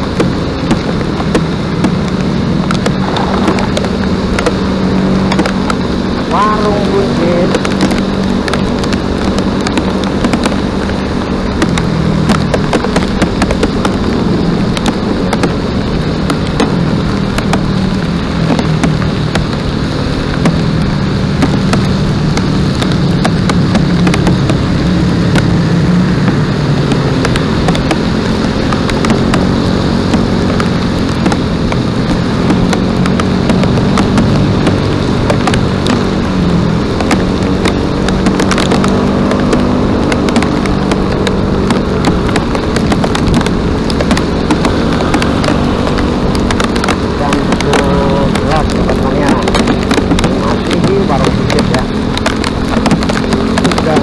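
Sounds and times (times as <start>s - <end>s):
dense crackling noise: 0.0s - 54.0s
engine-like hum: 0.0s - 54.0s.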